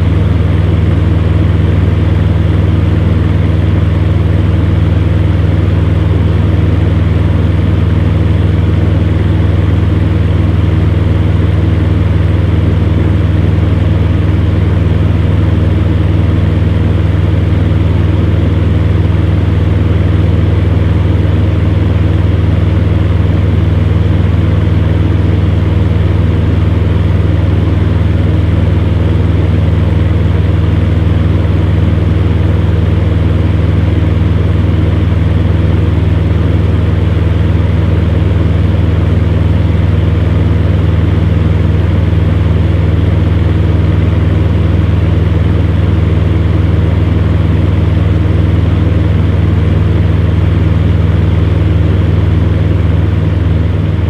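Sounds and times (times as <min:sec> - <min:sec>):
fan heater running: 0:00.0 - 0:54.0.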